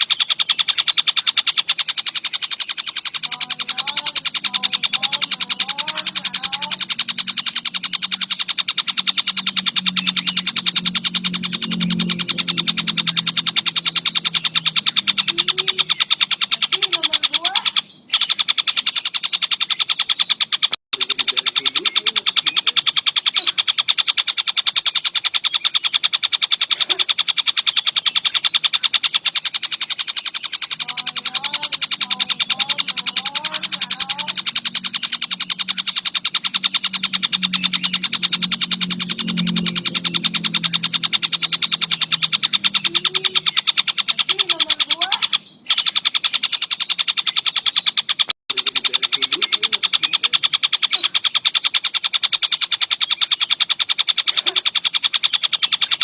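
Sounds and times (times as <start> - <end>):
faint bird chirps: 0.0 - 56.0
kingfisher rattling trill: 0.0 - 56.0.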